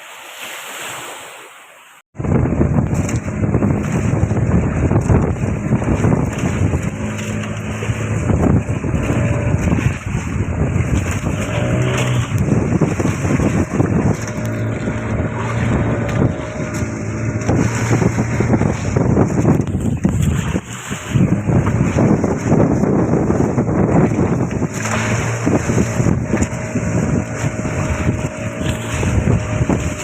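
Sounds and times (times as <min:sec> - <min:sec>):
waves: 0:00.0 - 0:30.0
wind buffeting microphone: 0:02.1 - 0:30.0
boat motor running: 0:02.2 - 0:30.0.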